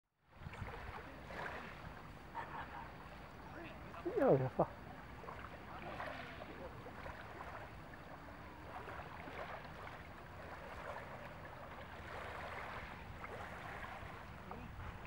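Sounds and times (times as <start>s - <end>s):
sea water lapping at shore: 0.2s - 15.0s.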